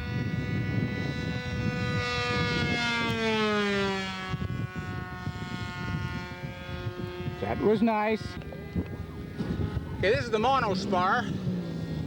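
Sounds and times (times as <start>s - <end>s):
model aircraft engine running: 0.0s - 12.0s.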